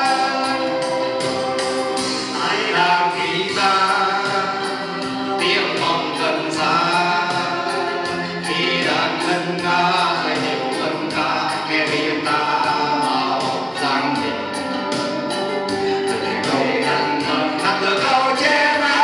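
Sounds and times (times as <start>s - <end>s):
acoustic guitar: 0.0s - 19.0s
men singing into microphones: 0.0s - 19.0s
steady beat: 0.0s - 19.0s.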